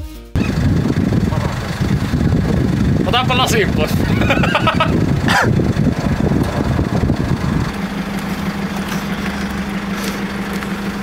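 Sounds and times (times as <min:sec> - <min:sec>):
van engine idling: 0:00.4 - 0:11.0.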